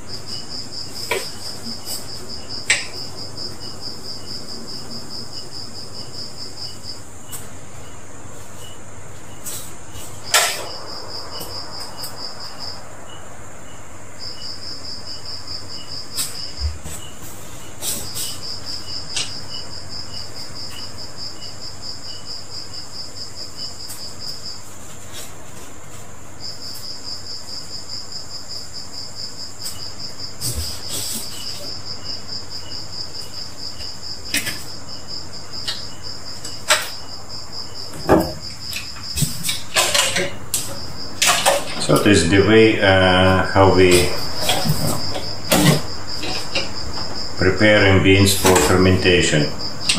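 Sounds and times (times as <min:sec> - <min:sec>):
cricket trilling: 0:00.0 - 0:49.9.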